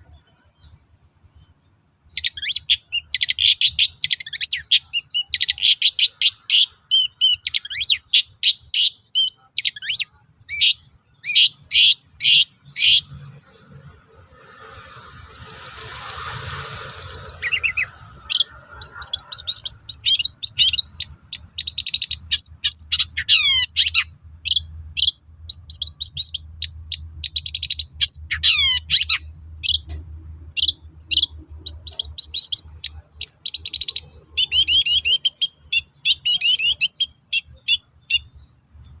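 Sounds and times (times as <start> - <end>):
bird chattering song: 0.0 - 39.0.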